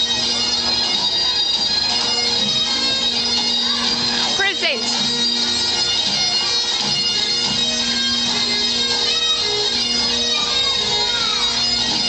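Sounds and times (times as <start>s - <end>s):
bagpipes playing a tune: 0.0s - 12.0s.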